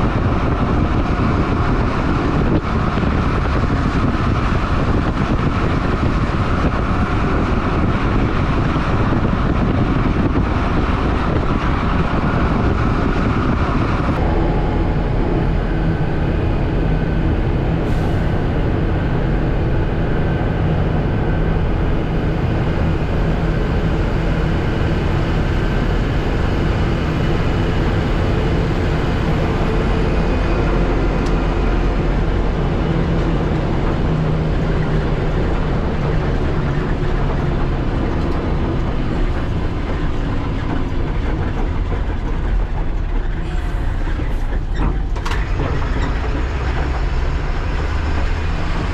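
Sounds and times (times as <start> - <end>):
road noise: 0.0 - 48.9
truck diesel engine running: 0.0 - 48.9.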